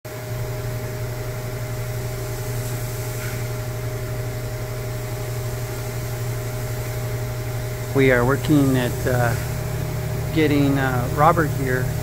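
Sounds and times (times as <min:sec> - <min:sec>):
low hum of shop machinery: 0:00.1 - 0:12.0.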